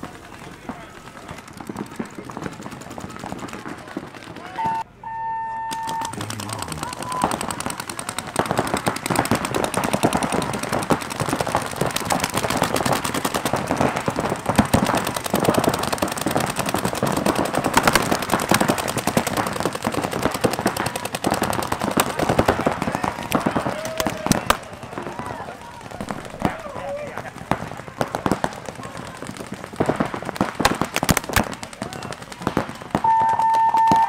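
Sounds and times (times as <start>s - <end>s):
paintball markers firing rapidly: 0.0s - 4.8s, 5.7s - 34.0s.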